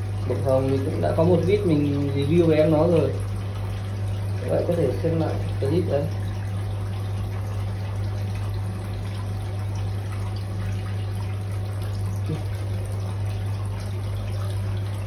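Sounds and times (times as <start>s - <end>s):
low pump hum: 0.0s - 15.0s
water trickling and splashing: 0.0s - 15.0s.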